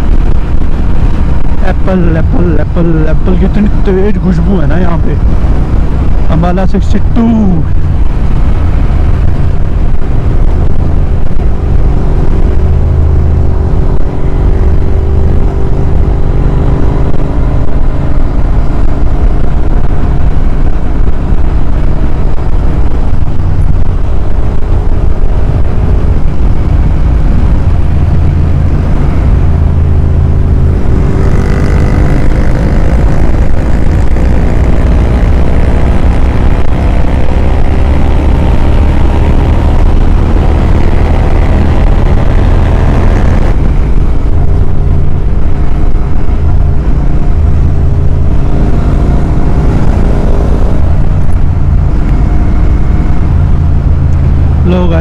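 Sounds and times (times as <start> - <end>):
motorcycle engine cruising: 0.0 - 55.0
wind noise on microphone: 0.0 - 55.0.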